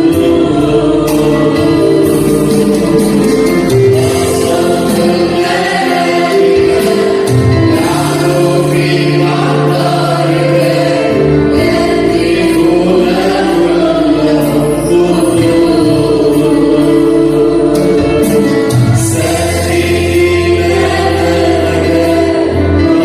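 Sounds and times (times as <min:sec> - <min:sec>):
backing track: 0:00.0 - 0:23.0
choir singing a hymn: 0:00.0 - 0:23.0.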